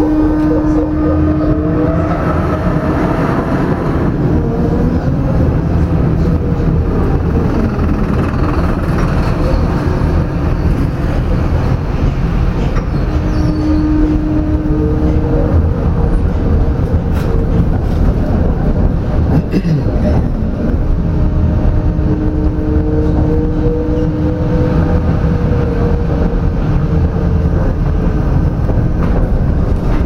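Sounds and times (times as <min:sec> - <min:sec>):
tram motor whine: 0:00.0 - 0:30.0
tram wheels rumbling on rails: 0:00.0 - 0:30.0.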